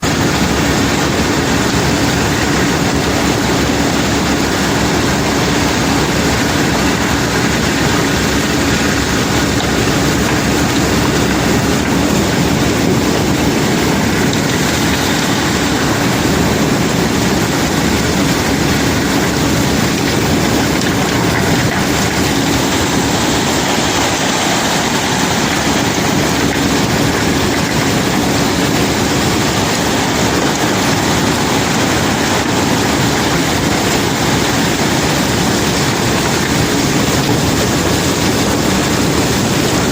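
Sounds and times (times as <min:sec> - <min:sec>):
heavy machinery running: 0:00.0 - 0:39.9.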